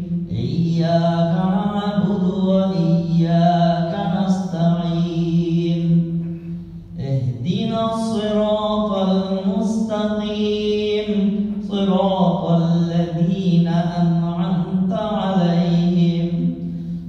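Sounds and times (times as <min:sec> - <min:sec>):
man chanting recitation: 0:00.0 - 0:16.8.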